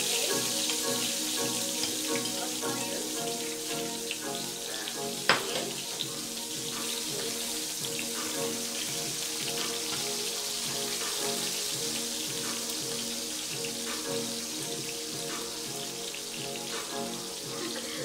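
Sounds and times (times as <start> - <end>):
background music with held notes: 0.0 - 18.0
oil sizzling in a frying pan: 0.0 - 18.0.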